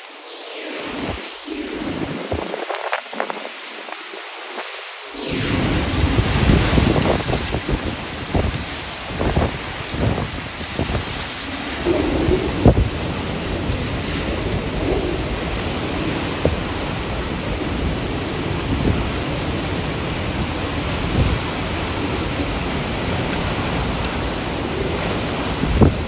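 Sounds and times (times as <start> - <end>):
hurricane wind: 0.0 - 26.0
driving rain: 0.8 - 26.0
low thumps from gusts: 0.9 - 3.5, 5.2 - 26.0.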